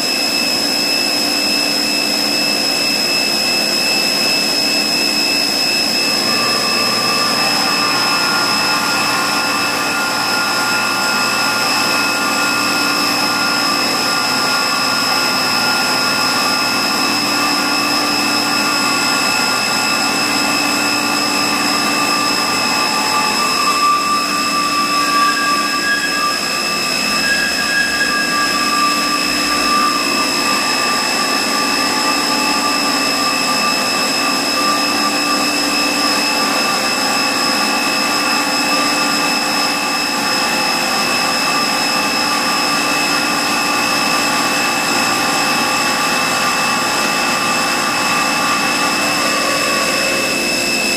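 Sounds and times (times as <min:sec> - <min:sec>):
loud mechanical whine: 0:00.0 - 0:50.9.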